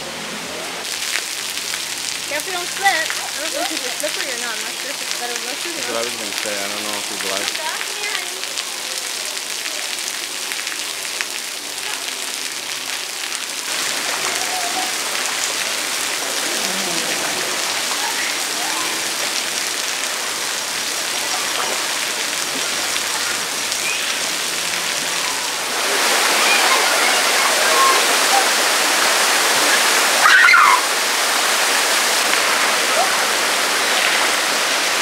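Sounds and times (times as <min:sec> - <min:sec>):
water falling on wet surface: 0:00.8 - 0:35.0.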